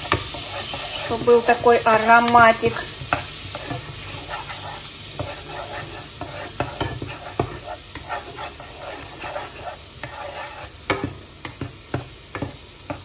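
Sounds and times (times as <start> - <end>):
butter sizzling in a pot: 0.0 - 13.0
spatula scraping and knocking pot: 0.0 - 13.0.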